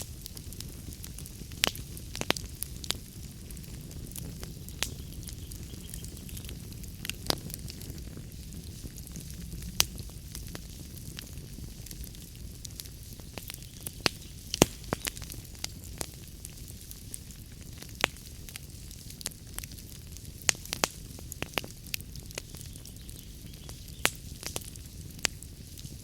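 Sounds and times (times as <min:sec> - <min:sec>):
low rumble and hiss of fire: 0:00.0 - 0:26.0
wood fire crackling: 0:00.0 - 0:26.0.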